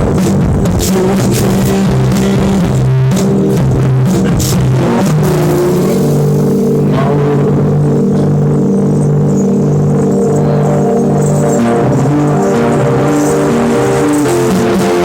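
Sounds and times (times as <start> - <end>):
distorted live band music: 0.0 - 15.0
low bass notes: 0.0 - 15.0.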